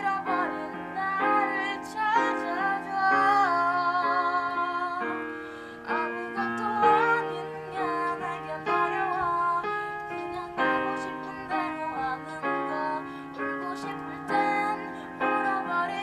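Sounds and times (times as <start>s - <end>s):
piano chords: 0.0s - 16.0s
woman singing: 0.0s - 16.0s.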